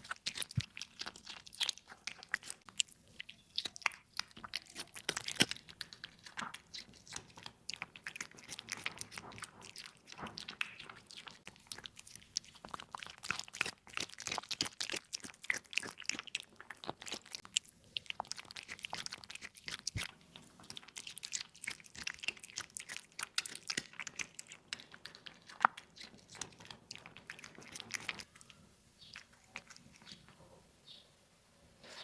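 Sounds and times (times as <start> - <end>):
cat crunching food: 0.0 - 30.4.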